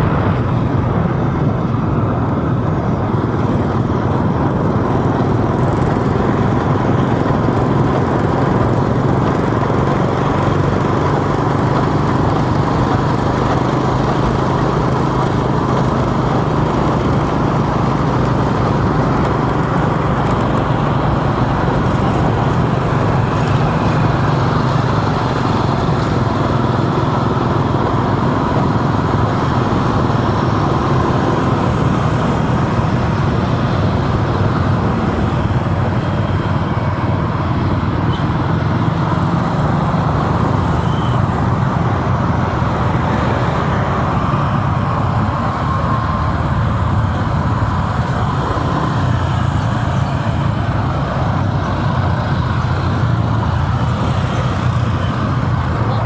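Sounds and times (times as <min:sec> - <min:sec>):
engine and tyre rumble: 0:00.0 - 0:56.0
passing cars and motorbikes: 0:00.0 - 0:56.0.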